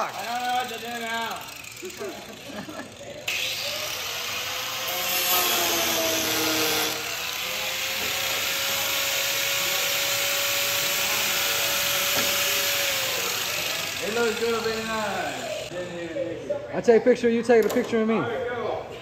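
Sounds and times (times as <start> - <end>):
angle grinder sanding metal: 0.0 - 15.7.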